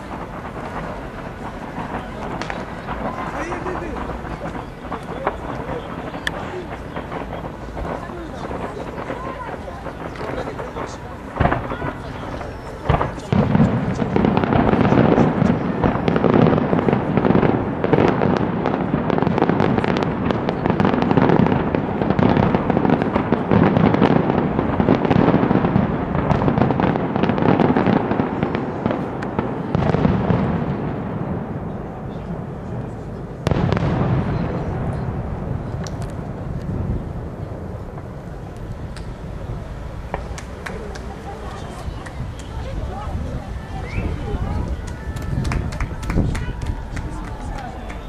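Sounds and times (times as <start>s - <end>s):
fireworks bangs and crackling: 0.0s - 48.0s
wind buffeting microphone: 0.0s - 48.0s.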